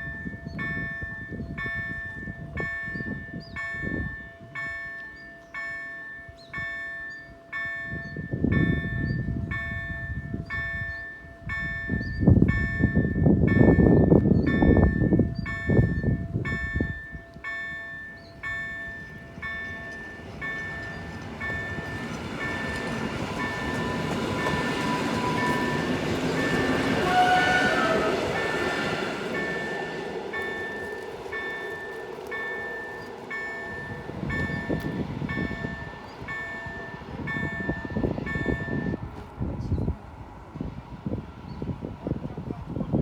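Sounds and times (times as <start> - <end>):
level crossing warning bell: 0.0 - 39.2
electric train passing: 0.0 - 43.0.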